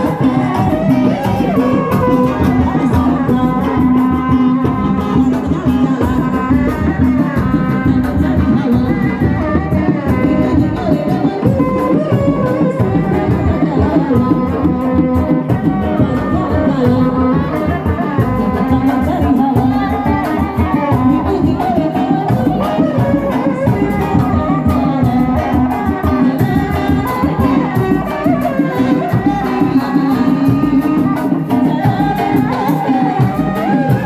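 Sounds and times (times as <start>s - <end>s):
hand drums: 0.0s - 34.0s
rattling percussion: 0.0s - 34.0s.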